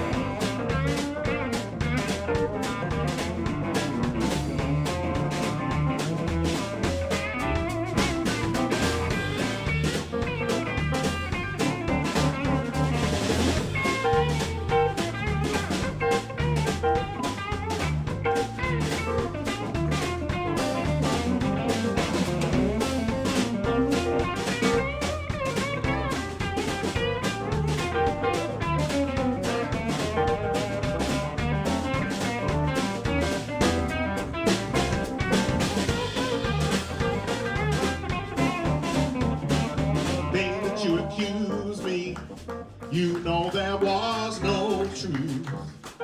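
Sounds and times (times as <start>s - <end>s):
bass groove: 0.0s - 46.0s
blues guitar: 0.0s - 46.0s
drum kit: 0.0s - 46.0s.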